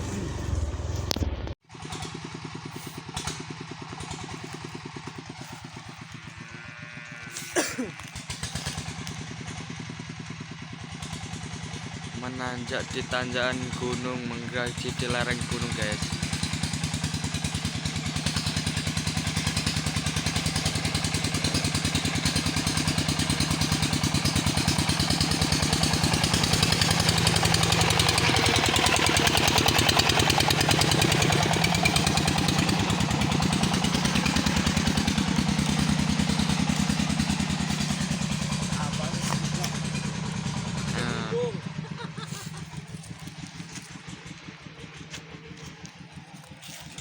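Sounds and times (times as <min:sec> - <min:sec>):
motorcycle engine under load: 0:00.0 - 0:47.0.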